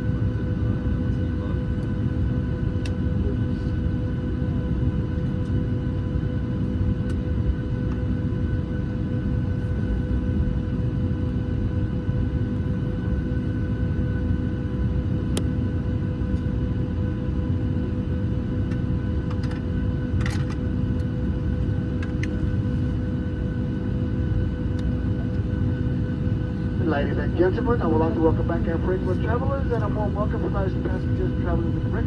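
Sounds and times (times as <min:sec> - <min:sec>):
aircraft cabin rumble and whine: 0:00.0 - 0:32.0.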